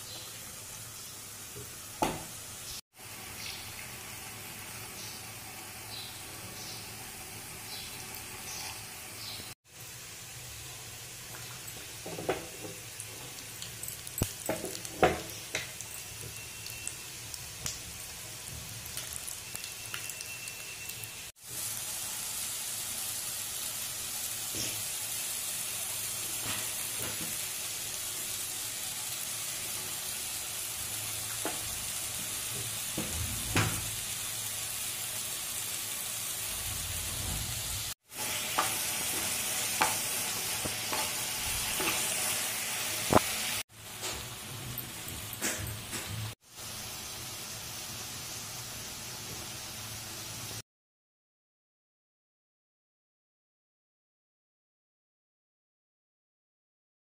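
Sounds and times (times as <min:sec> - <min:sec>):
food sizzling in a pan: 0:00.0 - 0:50.6.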